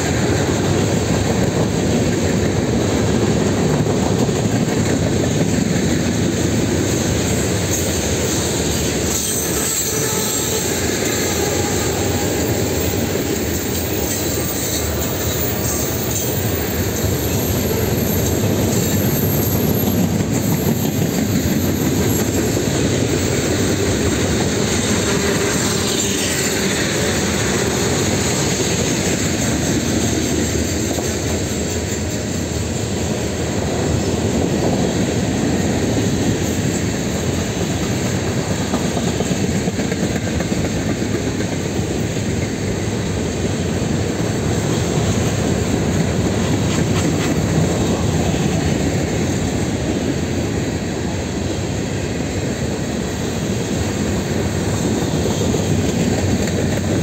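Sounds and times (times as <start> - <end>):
freight cars rumbling on rails: 0.0 - 57.0.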